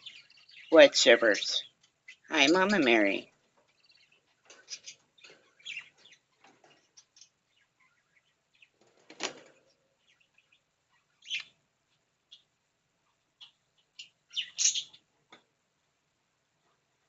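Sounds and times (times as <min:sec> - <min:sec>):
small birds chirping: 0:00.0 - 0:15.6.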